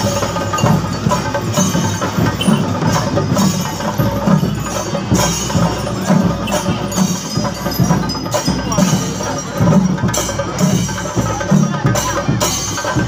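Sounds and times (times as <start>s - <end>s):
percussion music: 0.0s - 13.0s.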